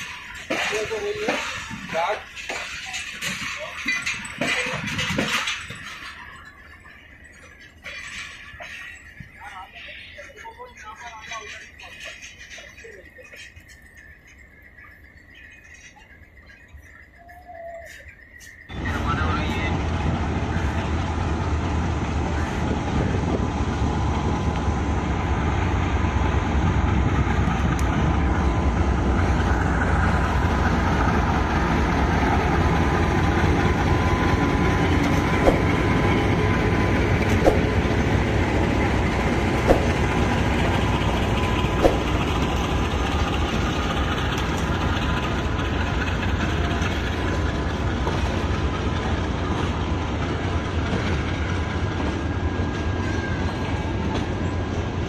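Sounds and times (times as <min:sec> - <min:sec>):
diesel locomotive engine running: 0:00.0 - 0:55.0
train wheels on rail: 0:00.0 - 0:55.0.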